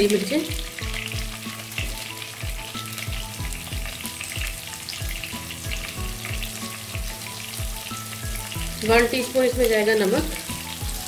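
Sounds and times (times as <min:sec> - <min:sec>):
background music with steady beat: 0:00.0 - 0:11.0
vegetables sizzling in hot oil: 0:00.0 - 0:11.0.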